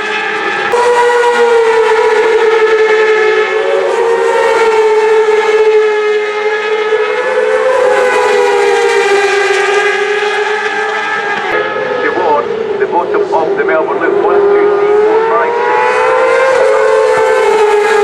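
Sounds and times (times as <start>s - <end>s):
racing motorbike engines passing: 0.0s - 18.0s.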